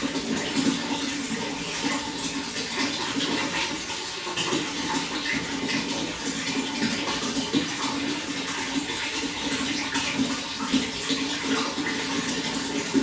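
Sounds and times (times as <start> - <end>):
running water splashing: 0.0 - 13.0.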